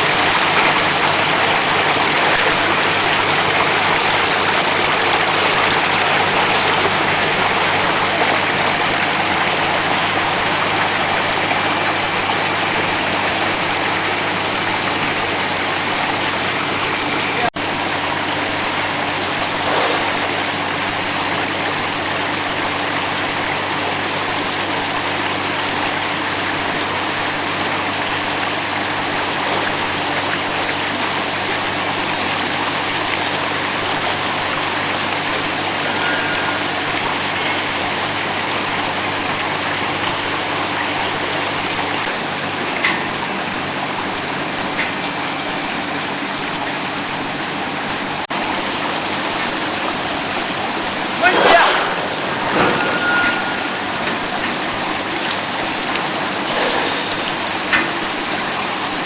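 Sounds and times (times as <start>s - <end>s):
low motor and pump hum: 0.0s - 59.0s
splashing circulating water: 0.0s - 59.0s.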